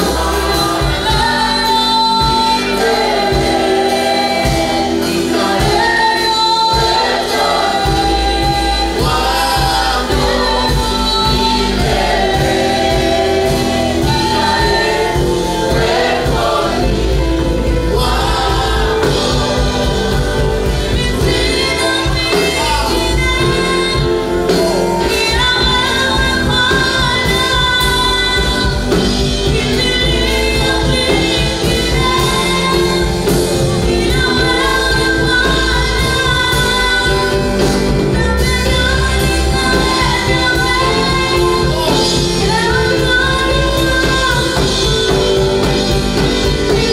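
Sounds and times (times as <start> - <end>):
choir singing gospel with band: 0.0 - 46.9.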